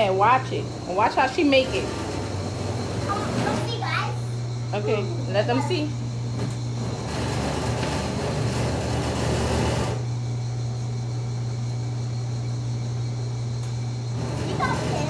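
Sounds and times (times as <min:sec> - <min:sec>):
electric ice shaver running: 0:00.0 - 0:15.0
steady low hum: 0:00.0 - 0:15.0.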